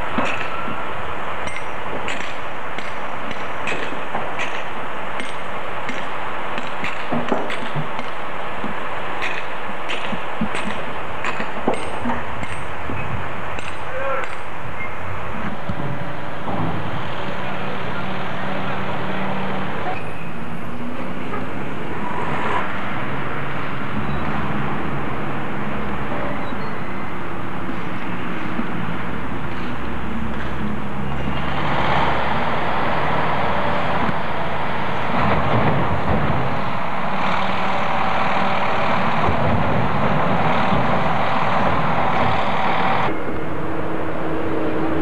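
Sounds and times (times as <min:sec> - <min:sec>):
passing traffic noise: 0:00.0 - 0:45.0.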